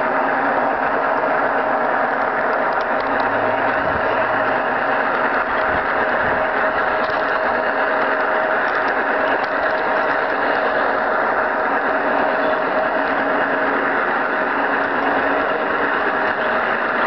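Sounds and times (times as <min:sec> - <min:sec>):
model train wheels on rails: 0:00.0 - 0:17.0
steady whine: 0:00.0 - 0:17.0.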